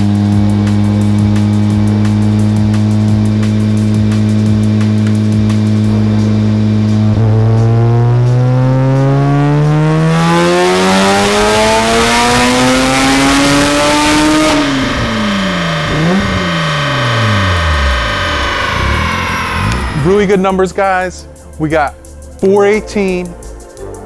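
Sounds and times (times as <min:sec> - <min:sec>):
rotary engine revving: 0:00.0 - 0:20.8
turbo and exhaust rush: 0:00.0 - 0:22.4.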